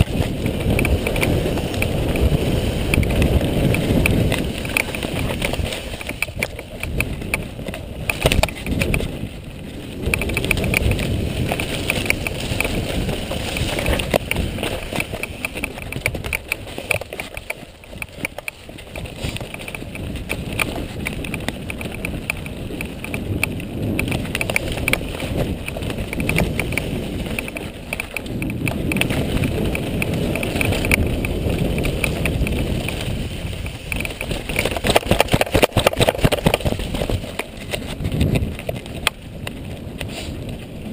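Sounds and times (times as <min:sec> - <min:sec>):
bike rattling over bumps: 0:00.0 - 0:40.9
bike tyres on dirt: 0:00.0 - 0:40.9
wind rumbling on microphone: 0:00.0 - 0:40.9.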